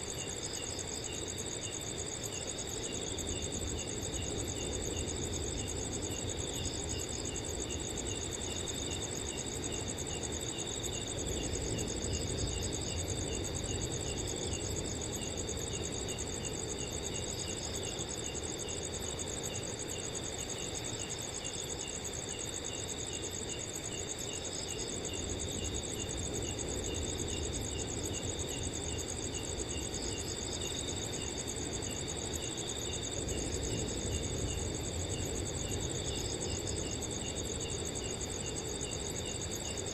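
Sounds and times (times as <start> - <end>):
crickets trilling: 0.0 - 39.9
lower cricket chirping: 0.0 - 39.9.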